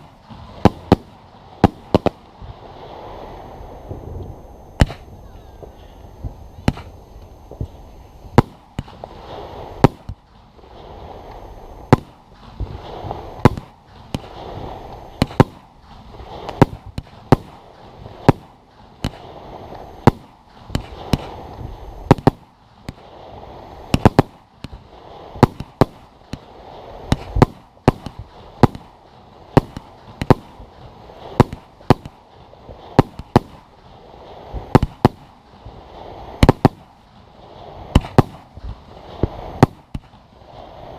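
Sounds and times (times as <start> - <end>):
firework shells bursting: 0.0 - 37.0, 37.8 - 40.3
steady rushing noise: 0.0 - 40.9.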